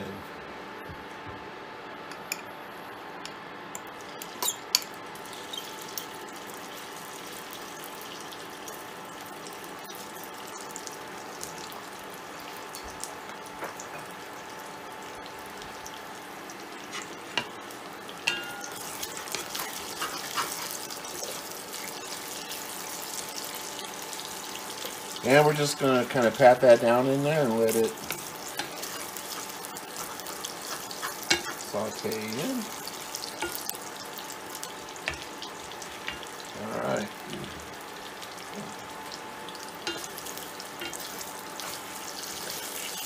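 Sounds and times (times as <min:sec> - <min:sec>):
chicken sizzling in hot oil: 0:03.9 - 0:43.0.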